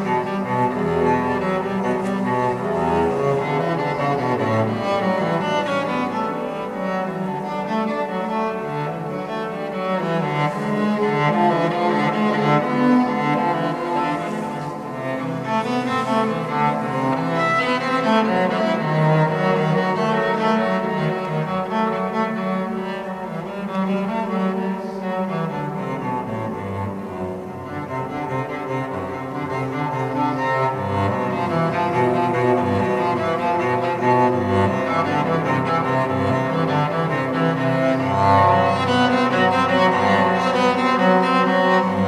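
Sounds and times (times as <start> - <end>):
bowed cello melody: 0.0 - 42.0.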